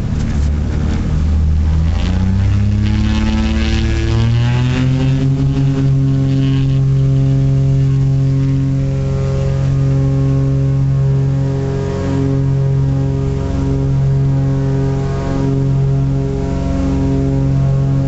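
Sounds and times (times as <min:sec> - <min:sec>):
propeller aircraft engines: 0:00.0 - 0:18.0.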